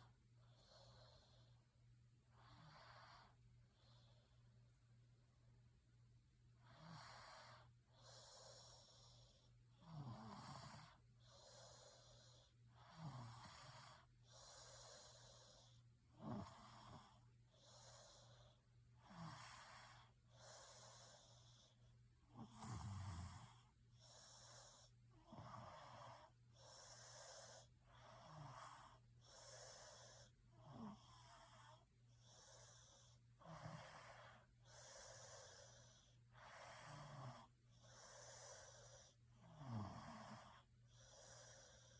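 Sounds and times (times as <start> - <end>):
person snoring faintly: 6.6 - 41.9.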